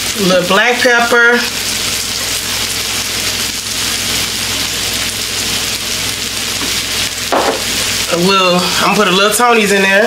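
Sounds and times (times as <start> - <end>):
burger patties sizzling on griddle: 0.0 - 10.0.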